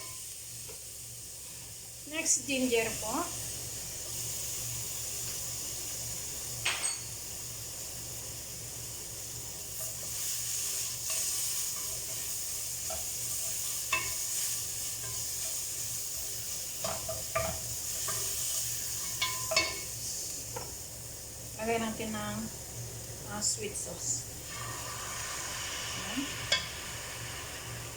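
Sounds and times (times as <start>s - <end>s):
food sizzling in oil: 0.0s - 27.9s.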